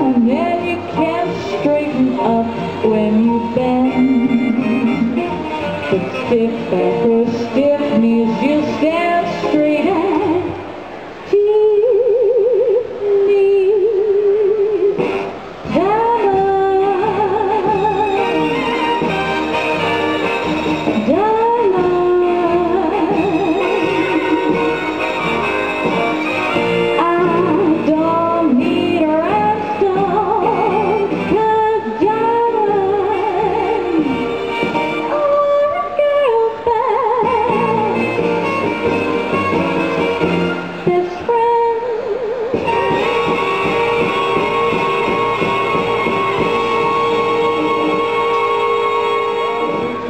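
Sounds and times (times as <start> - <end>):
backing music: 0.0 - 11.7, 12.6 - 50.0
woman singing into a microphone: 0.0 - 19.2, 20.9 - 24.8, 26.9 - 39.4, 40.0 - 50.0.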